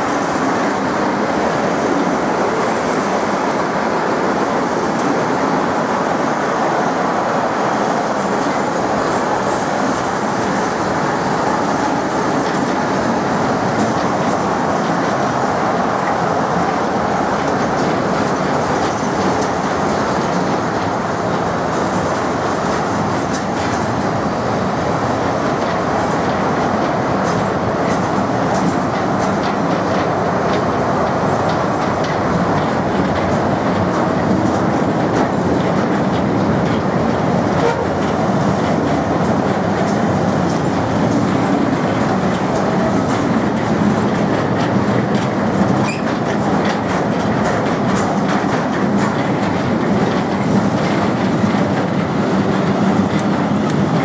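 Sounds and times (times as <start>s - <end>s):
freight train rolling past: 0.0s - 54.0s
wheels clicking over rail joints: 0.0s - 54.0s.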